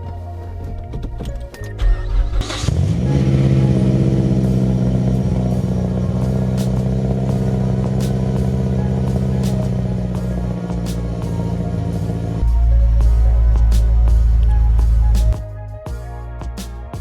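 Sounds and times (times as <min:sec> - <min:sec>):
car engine starting and idling: 0:00.8 - 0:15.4.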